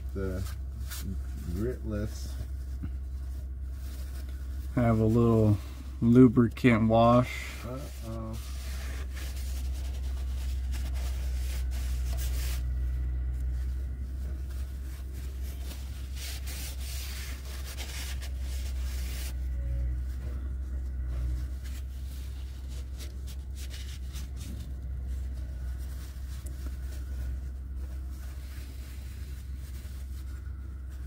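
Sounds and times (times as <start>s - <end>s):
paper towel wiping: 0.0s - 31.0s
steady low rumble: 0.0s - 31.0s.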